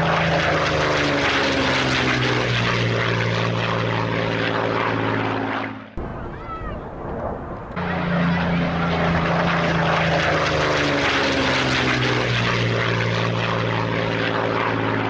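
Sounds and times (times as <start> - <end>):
propeller aircraft engine running: 0.0 - 15.0.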